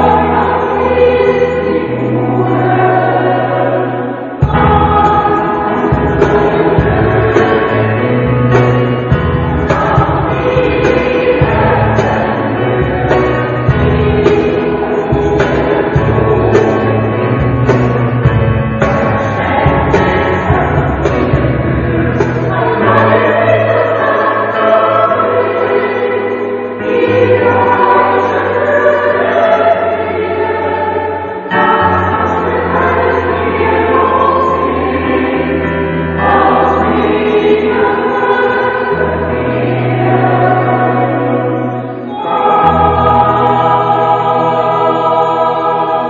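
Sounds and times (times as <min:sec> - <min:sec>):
choir singing held chords: 0:00.0 - 0:46.0.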